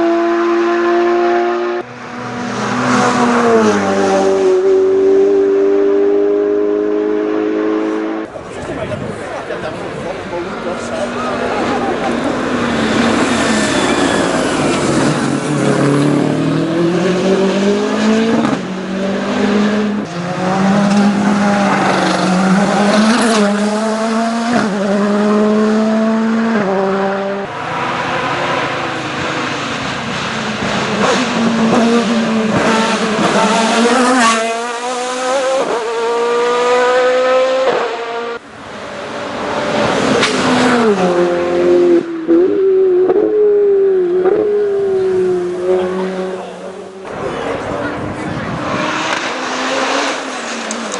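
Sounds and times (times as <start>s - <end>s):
racing car engines at full throttle: 0.0s - 50.9s.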